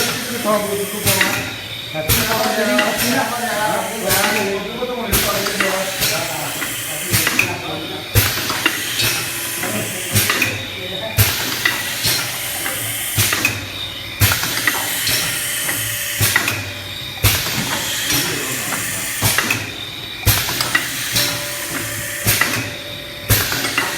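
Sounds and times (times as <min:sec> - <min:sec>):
machine mechanical clacks: 0:00.0 - 0:23.9.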